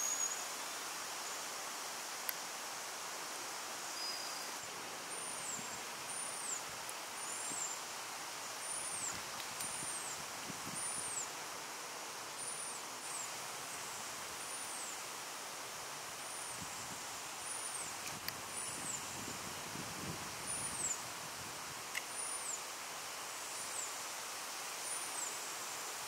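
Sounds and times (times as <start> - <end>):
wetland ambience hiss: 0.0 - 26.0.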